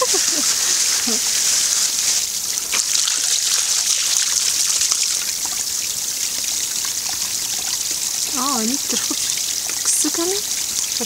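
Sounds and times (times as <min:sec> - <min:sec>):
water trickling onto stone: 0:00.0 - 0:11.0.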